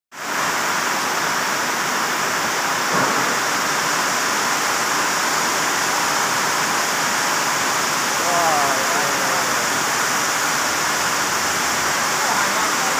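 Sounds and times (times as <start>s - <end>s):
heavy rain on a metal roof: 0.1s - 12.9s.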